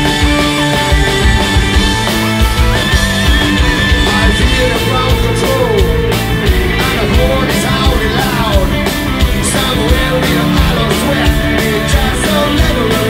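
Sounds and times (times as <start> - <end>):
bass guitar: 0.0 - 13.0
drum and cymbal hits: 0.0 - 13.0
electric guitar: 0.0 - 13.0.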